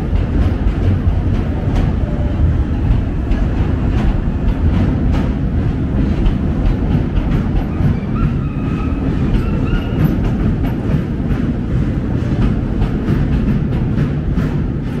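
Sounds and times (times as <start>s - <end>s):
train rumbling over bridge: 0.0s - 15.0s
wheels clicking over rail joints: 0.0s - 15.0s.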